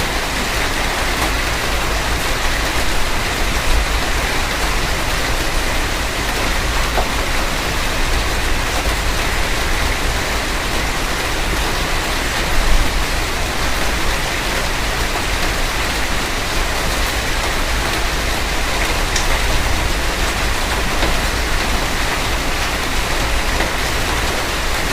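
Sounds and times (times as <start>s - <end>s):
heavy rain pelting a car: 0.0s - 24.9s.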